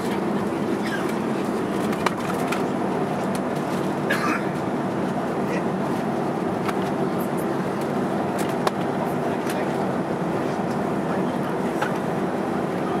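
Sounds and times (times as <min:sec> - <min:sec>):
airliner engines and wheels rumbling: 0:00.0 - 0:13.0.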